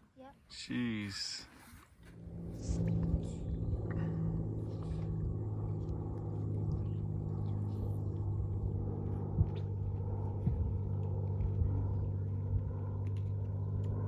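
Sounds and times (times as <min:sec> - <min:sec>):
engine humming: 0:01.9 - 0:14.0.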